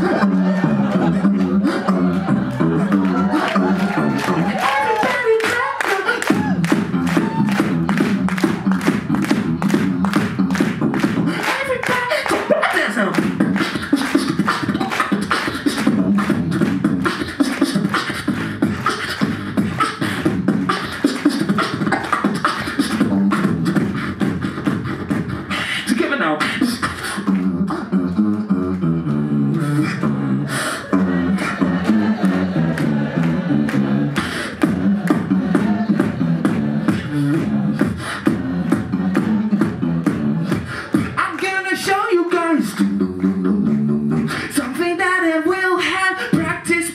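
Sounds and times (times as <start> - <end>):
vocal bass line: 0.0 - 46.9
beatboxing mouth clicks: 1.2 - 46.9.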